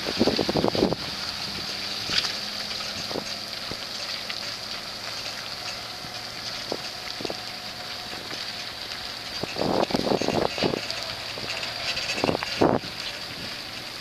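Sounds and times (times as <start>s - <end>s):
truck engine humming: 0.0s - 14.0s
wind: 0.0s - 14.0s.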